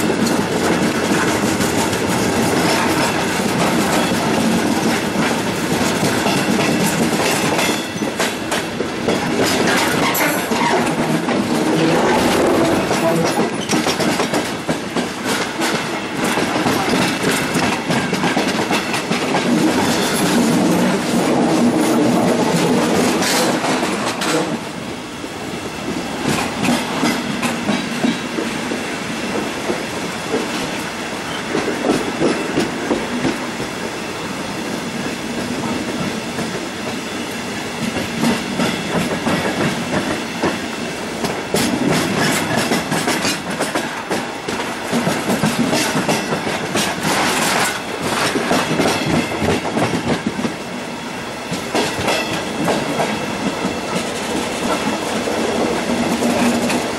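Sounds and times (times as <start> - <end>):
train wheels rolling: 0.0 - 56.9.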